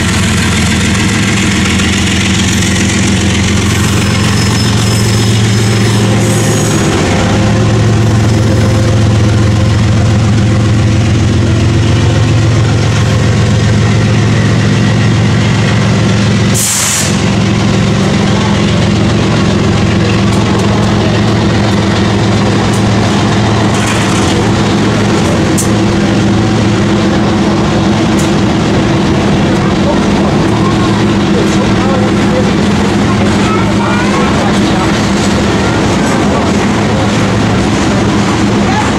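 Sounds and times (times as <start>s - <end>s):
diesel locomotives droning: 0.0s - 38.9s.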